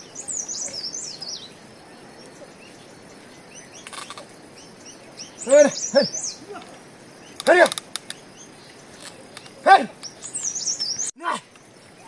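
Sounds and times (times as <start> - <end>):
songbird warbling chirps: 0.0 - 12.0
faint rustle: 0.2 - 5.2, 6.3 - 12.0.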